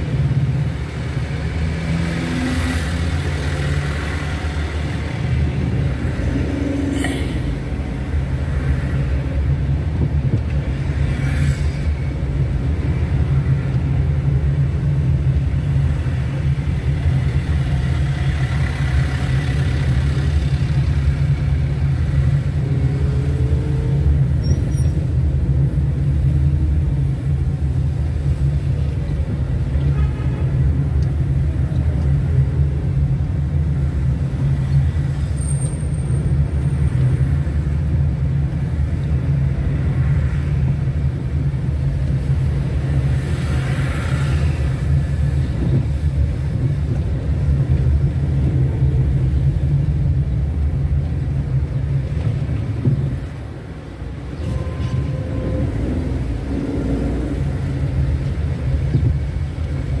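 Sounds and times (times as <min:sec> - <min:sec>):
car engine rumble: 0:00.0 - 1:00.0
road noise: 0:00.0 - 1:00.0.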